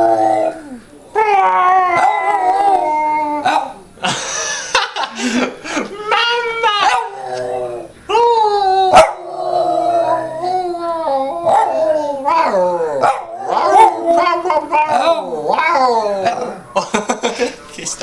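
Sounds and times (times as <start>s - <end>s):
dog howling: 0.0s - 3.8s, 6.0s - 16.7s.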